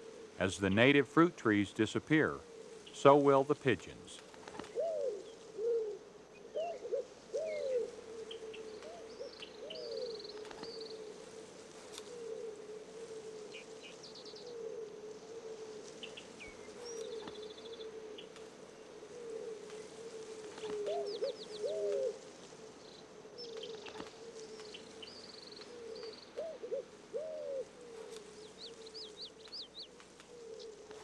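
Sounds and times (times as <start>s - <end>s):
pigeon cooing: 0.0s - 0.6s, 4.6s - 22.2s, 23.3s - 31.0s
small birds chirping: 0.0s - 12.6s, 13.3s - 19.0s, 19.6s - 31.0s.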